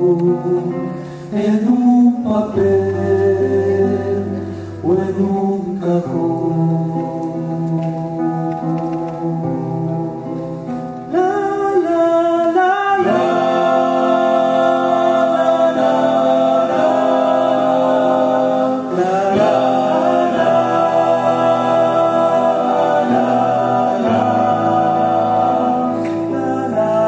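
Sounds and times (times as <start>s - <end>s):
male vocal group singing: 0.0s - 10.4s, 11.1s - 27.0s.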